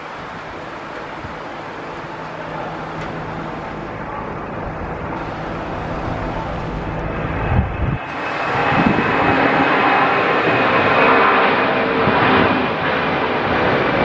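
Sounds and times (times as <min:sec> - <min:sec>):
high whine: 0:00.0 - 0:14.0
jet engines at takeoff: 0:00.0 - 0:14.0.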